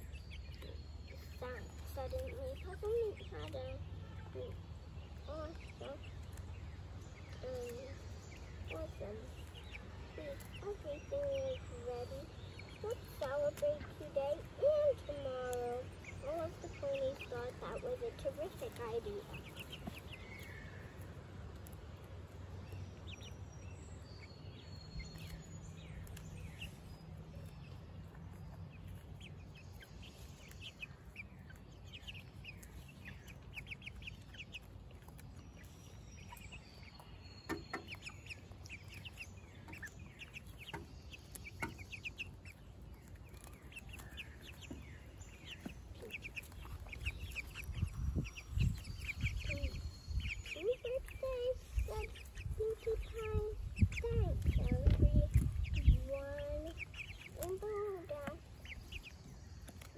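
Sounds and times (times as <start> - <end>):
hens chirping and clucking: 0.0 - 59.9.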